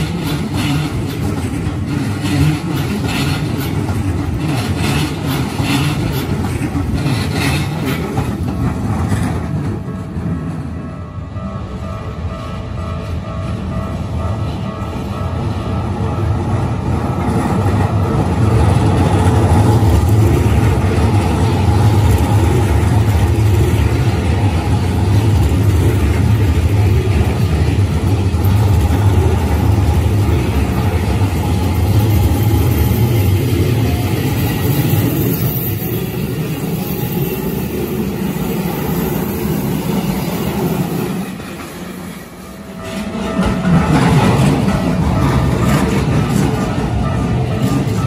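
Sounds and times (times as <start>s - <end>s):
electric train passing close by: 0.0s - 48.0s
train wheels on rails: 0.0s - 48.0s.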